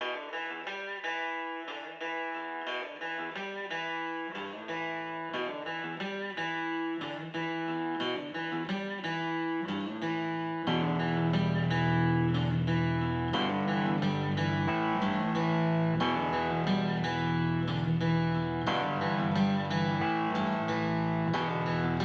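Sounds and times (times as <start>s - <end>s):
picked guitar notes: 0.0s - 22.0s.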